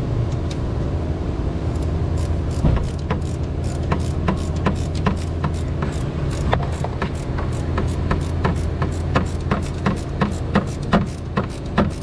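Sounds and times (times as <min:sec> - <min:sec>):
steady low hum: 0:00.0 - 0:12.0
ratchet wrench clicking: 0:01.7 - 0:12.0.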